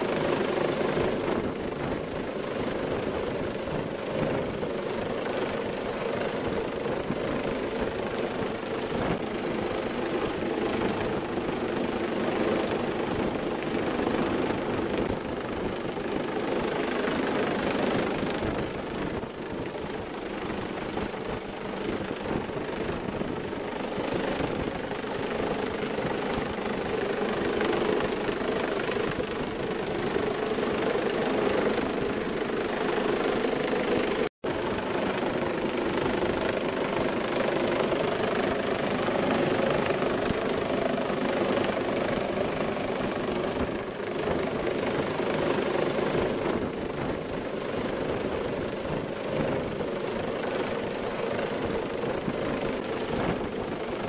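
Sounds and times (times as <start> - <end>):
helicopter hovering overhead: 0.0 - 54.0.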